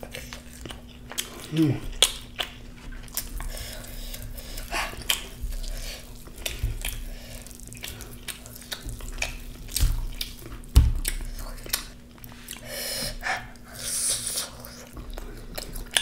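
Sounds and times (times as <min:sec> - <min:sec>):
faint steady hum: 0:00.0 - 0:16.0
person chewing food: 0:00.0 - 0:16.0.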